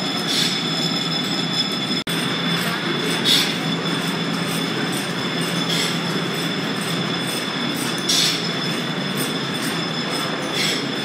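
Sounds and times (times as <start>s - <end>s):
machinery rumble and whine: 0.0s - 11.0s.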